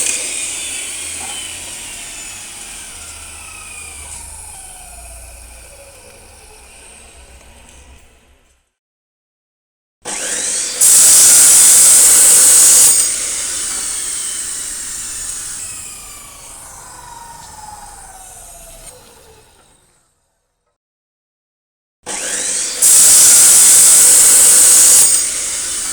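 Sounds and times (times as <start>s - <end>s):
power tool cutting steel: 0.0s - 8.6s, 10.1s - 20.3s, 22.1s - 25.9s.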